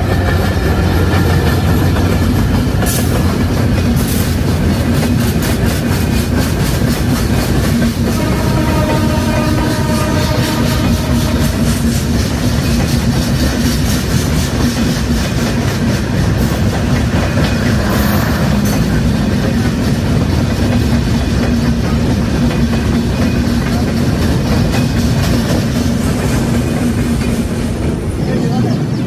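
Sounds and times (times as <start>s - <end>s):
clickety-clack over rail joints: 0.0s - 29.0s
train wheels rumbling: 0.0s - 29.0s.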